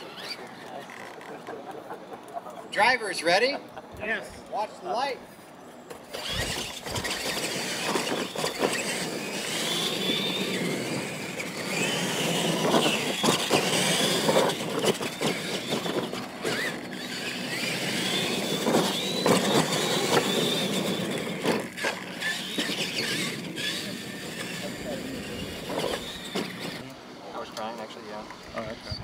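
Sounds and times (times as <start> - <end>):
electric motor whine: 0.0 - 1.6, 5.9 - 29.0.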